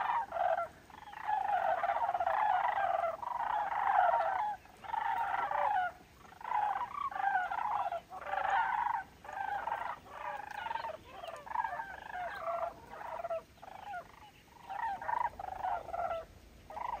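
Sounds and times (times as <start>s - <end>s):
cranes calling in flight: 0.0s - 14.0s.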